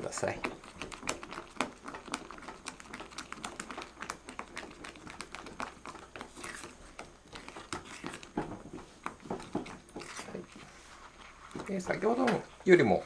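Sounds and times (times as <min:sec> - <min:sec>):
spatula stirring thick cream: 0:00.0 - 0:13.0.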